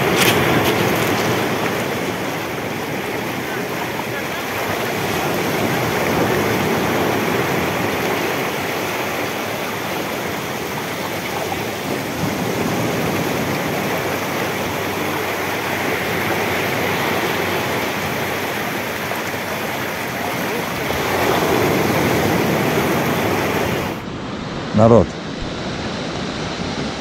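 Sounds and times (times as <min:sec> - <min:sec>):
stream rushing over pebbles: 0:00.0 - 0:24.0
small waves breaking on shore: 0:00.0 - 0:27.0.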